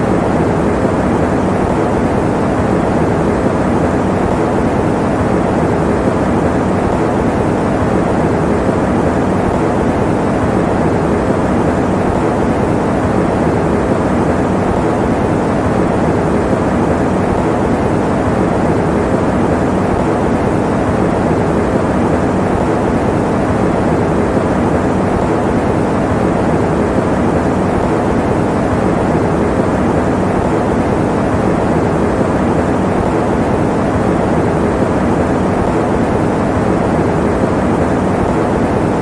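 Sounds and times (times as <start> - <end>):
electric fan running: 0.0 - 39.0.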